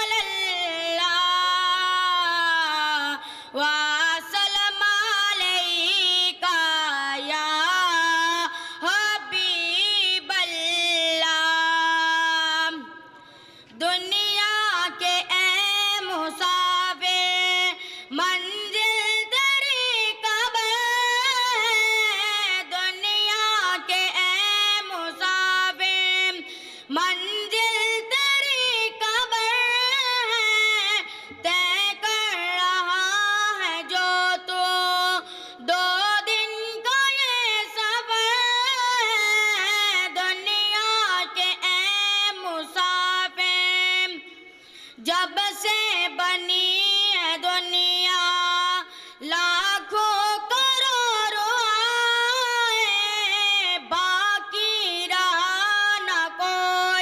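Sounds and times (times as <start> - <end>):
boy singing unaccompanied: 0.0 - 12.9, 13.8 - 44.3, 45.0 - 57.0.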